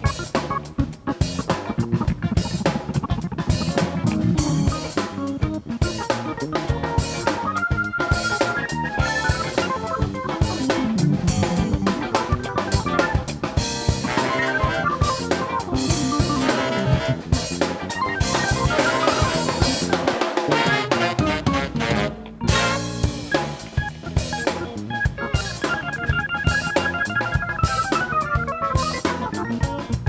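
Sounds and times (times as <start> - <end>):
drum kit beat: 0.0 - 30.0
funk band playing: 0.0 - 30.0.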